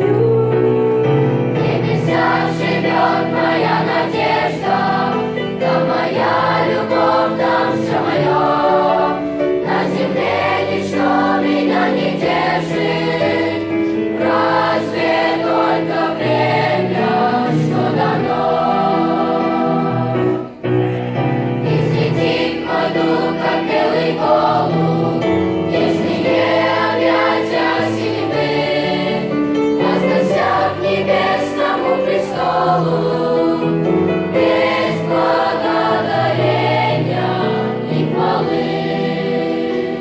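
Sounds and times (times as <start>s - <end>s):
children's choir singing: 0.0s - 40.0s.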